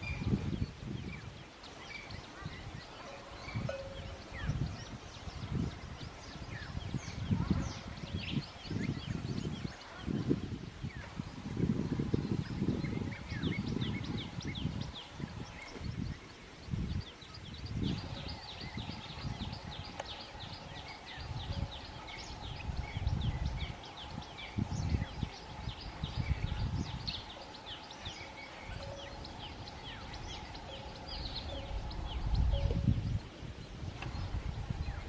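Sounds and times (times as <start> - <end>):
many birds calling: 0.0 - 35.0
wind rumbling on microphone: 0.0 - 35.0.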